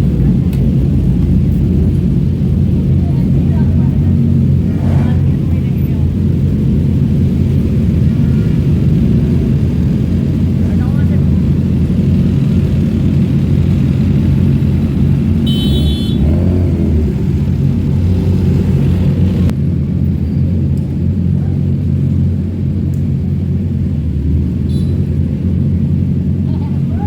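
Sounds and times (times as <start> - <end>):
motorcycle engines idling: 0.0 - 27.0.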